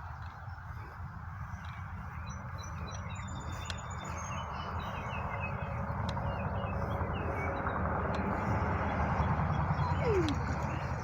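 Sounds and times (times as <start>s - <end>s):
small birds chirping: 0.0s - 11.0s
steady low rumbling: 0.0s - 11.0s.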